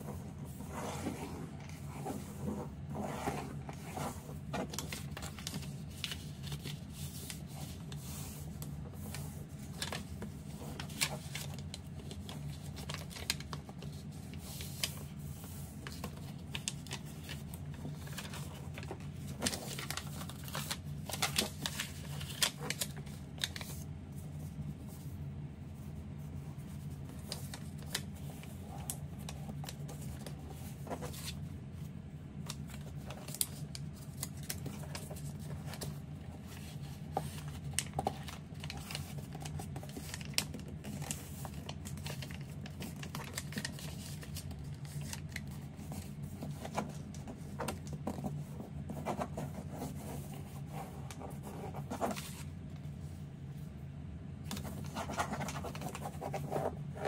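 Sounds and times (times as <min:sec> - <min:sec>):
paper crinkling and creasing: 0:00.0 - 0:53.7, 0:54.4 - 0:57.0.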